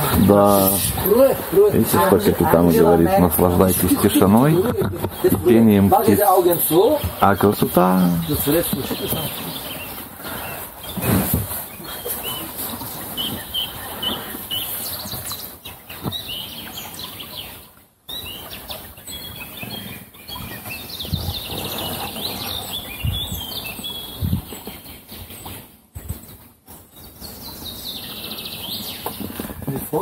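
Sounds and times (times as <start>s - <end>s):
birds singing and chirping: 0.0s - 30.0s.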